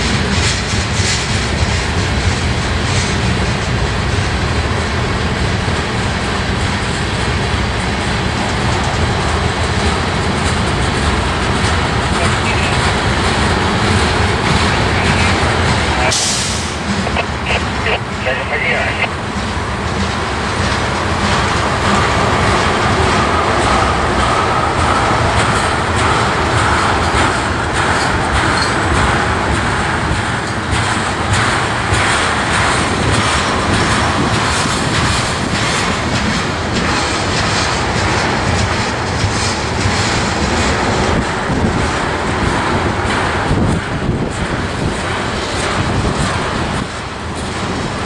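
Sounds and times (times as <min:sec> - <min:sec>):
freight train rumbling past: 0:00.0 - 0:48.0.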